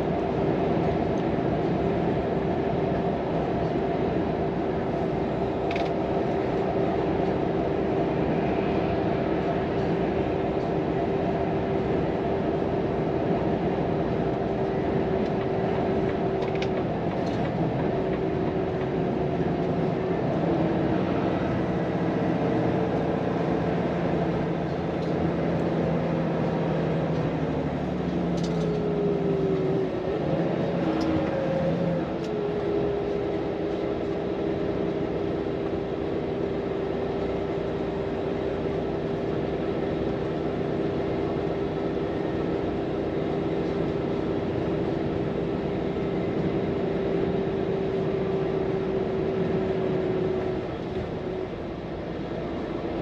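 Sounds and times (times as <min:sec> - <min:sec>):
road noise: 0:00.0 - 0:53.0
truck diesel engine: 0:00.0 - 0:53.0.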